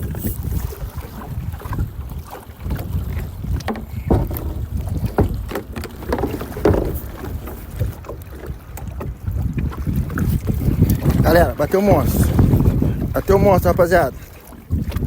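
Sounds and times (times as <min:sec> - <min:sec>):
strong wind on microphone: 0:00.0 - 0:15.0
water slapping against hull: 0:00.0 - 0:15.0.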